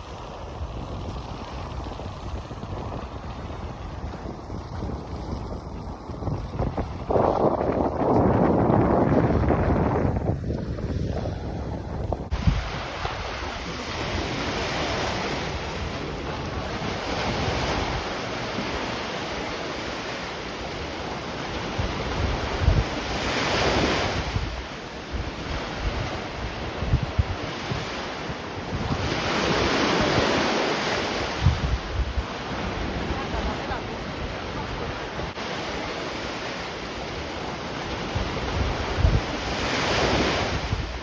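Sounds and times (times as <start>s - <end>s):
sea waves washing in: 0.0s - 41.0s
wind buffeting microphone: 0.0s - 41.0s.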